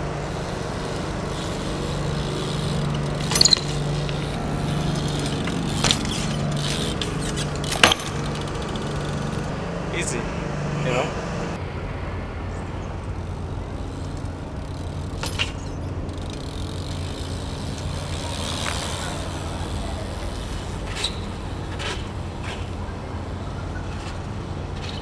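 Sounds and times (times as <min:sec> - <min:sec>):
bike tyres rolling on pavement: 0:00.0 - 0:11.7, 0:12.3 - 0:25.0.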